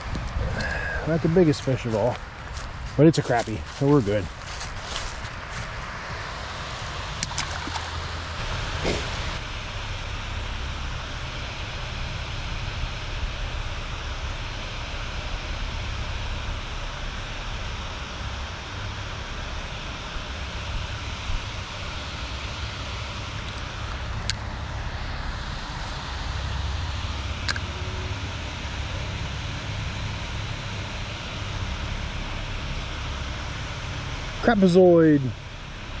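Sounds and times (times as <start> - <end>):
steady low rumble with hiss: 0.0 - 36.0.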